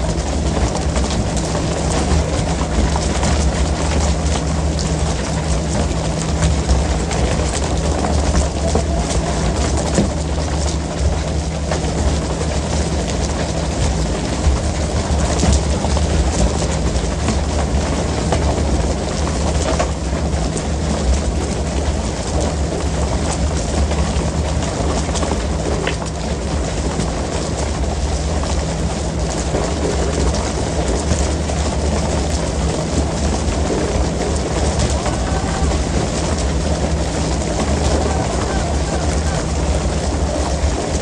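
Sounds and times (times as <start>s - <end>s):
boat engine humming: 0.0s - 41.0s
rushing water: 0.0s - 41.0s.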